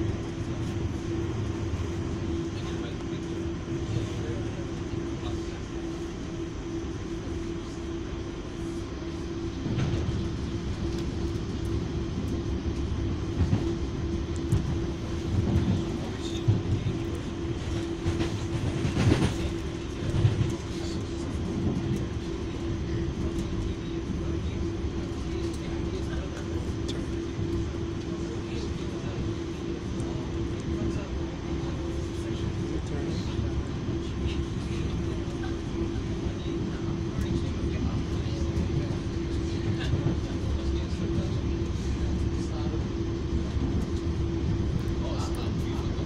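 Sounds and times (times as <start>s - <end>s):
train cabin rumble and hum: 0.0s - 46.0s.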